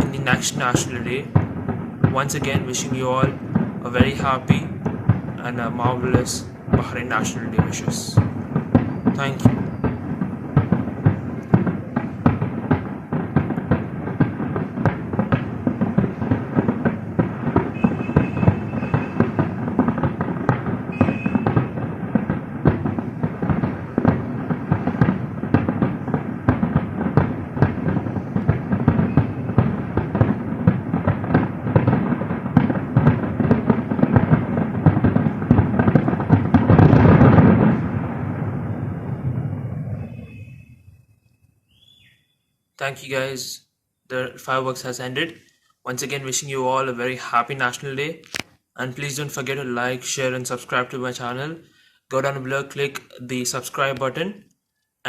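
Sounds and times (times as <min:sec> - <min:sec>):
fireworks bangs and crackles: 0:00.0 - 0:41.1, 0:44.2 - 0:51.4, 0:52.1 - 0:54.3.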